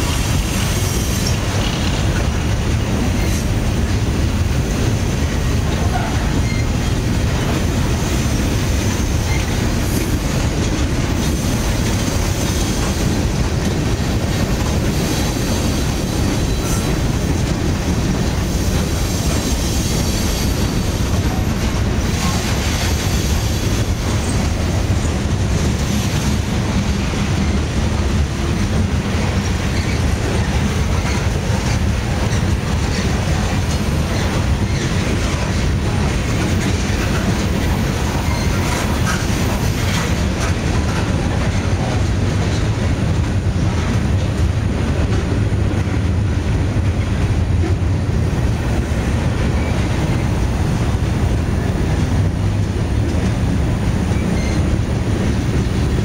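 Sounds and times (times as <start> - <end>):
faint train clanks: 0.0 - 56.0
train wheels rumbling on rails: 0.0 - 56.0.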